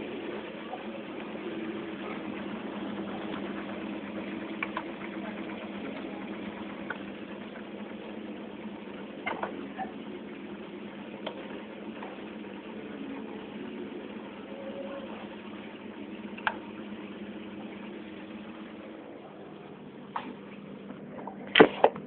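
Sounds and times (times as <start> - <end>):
dishwasher motor hum: 0.0 - 22.0.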